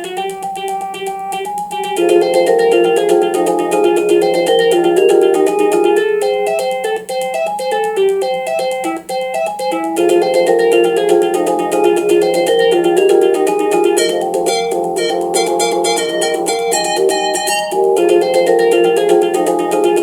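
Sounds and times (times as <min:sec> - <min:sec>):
synthesised pop music: 0:00.0 - 0:20.0
ticking beat: 0:00.0 - 0:20.0.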